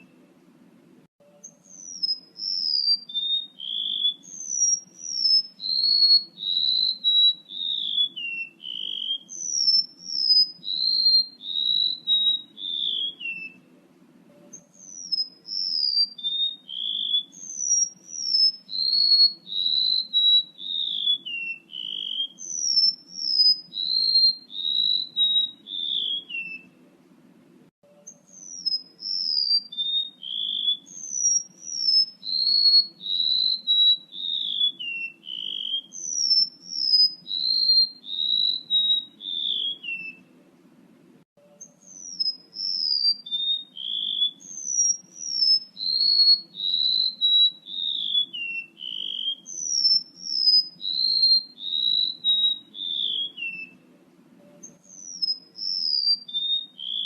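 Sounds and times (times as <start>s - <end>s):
bird song high whistled notes: 0.0s - 0.2s, 1.2s - 13.7s, 14.3s - 26.8s, 27.8s - 40.4s, 41.4s - 57.0s.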